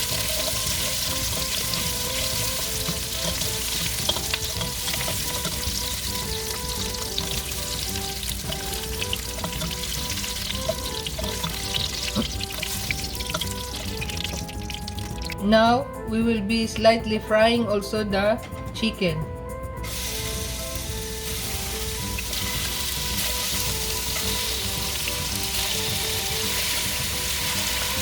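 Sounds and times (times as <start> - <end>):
peppers sizzling in a pan: 0.0 - 15.6, 19.8 - 28.0
soft instrumental music: 0.0 - 28.0.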